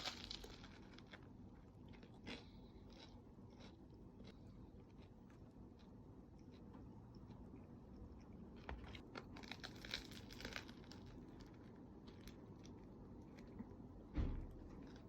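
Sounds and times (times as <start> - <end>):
crusty bread crunching being chewed: 0.0 - 13.9, 14.5 - 15.0.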